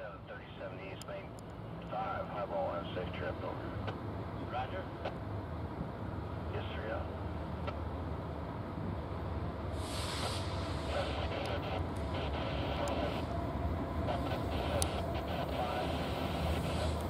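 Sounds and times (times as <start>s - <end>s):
diesel locomotive engines rumbling: 0.0s - 17.0s.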